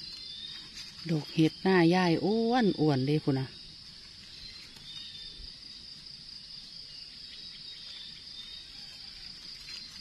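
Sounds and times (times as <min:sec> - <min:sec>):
insects chorus: 0:00.0 - 0:10.0
rustling of dry leaves: 0:00.0 - 0:10.0.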